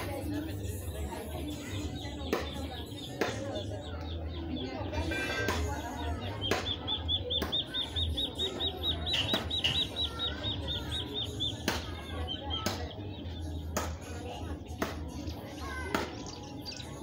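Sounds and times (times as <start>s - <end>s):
duckling peeping: 0.7s - 13.7s, 16.2s - 17.0s.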